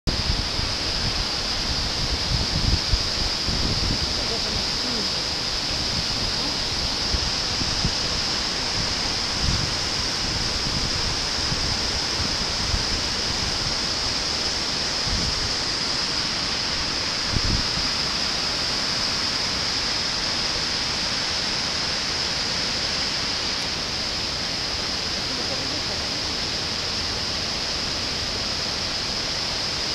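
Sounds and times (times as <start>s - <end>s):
river rushing over rocks: 0.1s - 29.9s.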